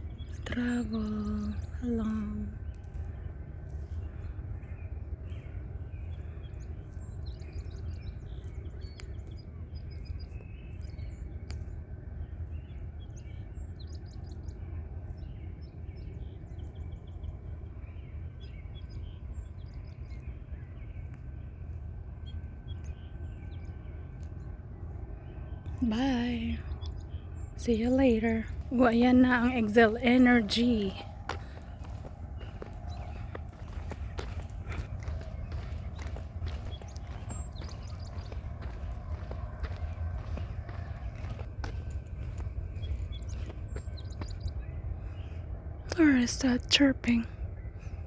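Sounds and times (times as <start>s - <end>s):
low outdoor rumble: 0.0s - 48.0s
small birds chirping: 0.0s - 48.0s.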